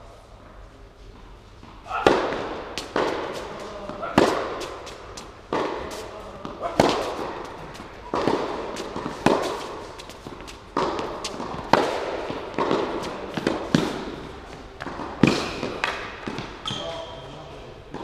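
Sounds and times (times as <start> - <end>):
tennis ball bouncing on hard court: 1.6 - 16.8
tennis racket hitting ball: 1.8 - 16.6.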